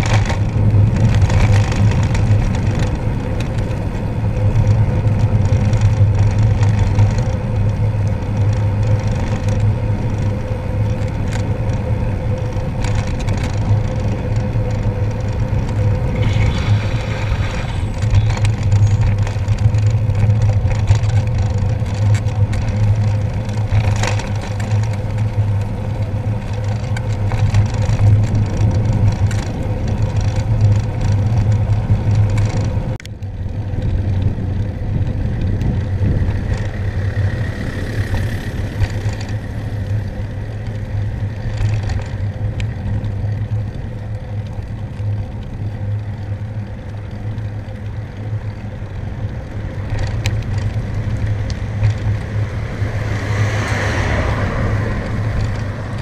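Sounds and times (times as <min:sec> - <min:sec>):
wind rushing over microphone: 0:00.0 - 0:41.5, 0:48.8 - 0:56.0.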